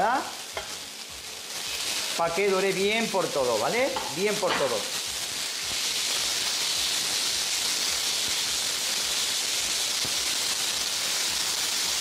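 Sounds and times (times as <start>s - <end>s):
beef sizzling in hot oil: 0.0s - 12.0s.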